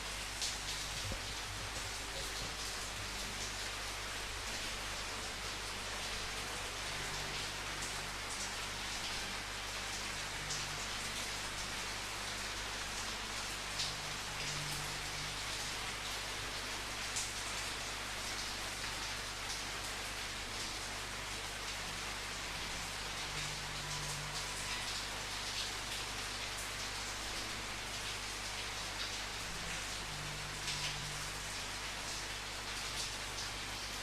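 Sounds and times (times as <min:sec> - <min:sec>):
raindrops ticking on a surface: 0:00.0 - 0:34.0
steady rain hiss: 0:00.0 - 0:34.0.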